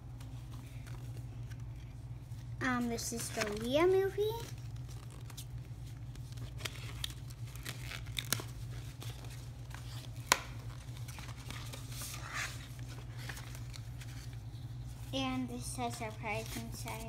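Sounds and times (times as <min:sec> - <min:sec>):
paper rustling and crinkling: 0:00.1 - 0:15.1, 0:15.8 - 0:17.0.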